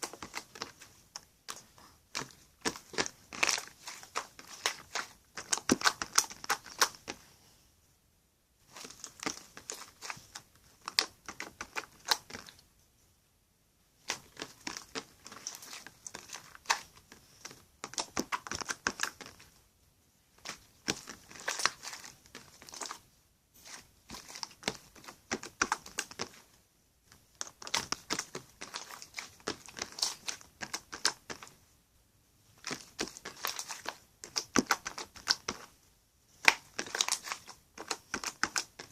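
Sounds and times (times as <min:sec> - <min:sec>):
slime clicking and crackling: 0:00.0 - 0:07.2, 0:08.7 - 0:12.6, 0:14.0 - 0:19.6, 0:20.4 - 0:23.0, 0:23.6 - 0:26.4, 0:27.2 - 0:31.5, 0:32.6 - 0:35.7, 0:36.4 - 0:38.9.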